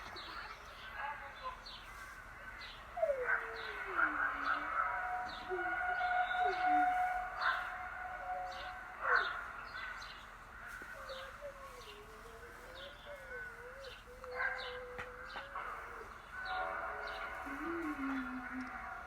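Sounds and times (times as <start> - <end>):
birds chirping: 0.0 - 19.0
wavering howl-like tone: 3.0 - 19.0.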